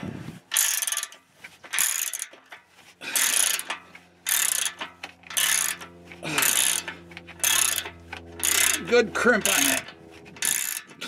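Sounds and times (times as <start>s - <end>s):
ratchet wrench clicking: 0.5s - 11.0s.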